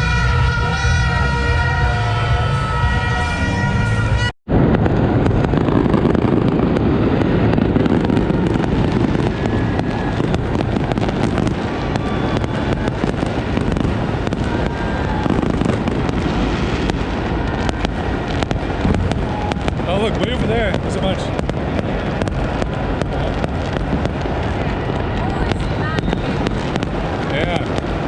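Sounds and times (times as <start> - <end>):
distant fireworks blasts rumbling: 0.0 - 28.0
fireworks popping and crackling: 0.0 - 28.0.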